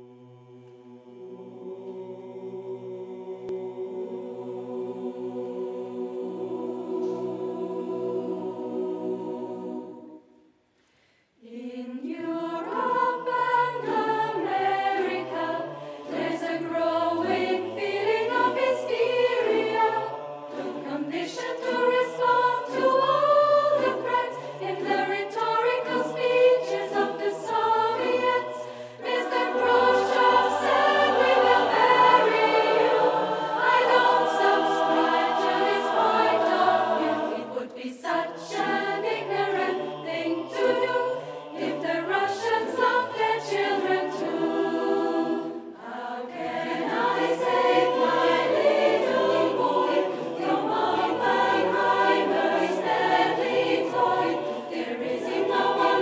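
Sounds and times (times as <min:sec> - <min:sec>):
choir singing in harmony: 0:00.0 - 0:10.6, 0:11.4 - 0:56.0.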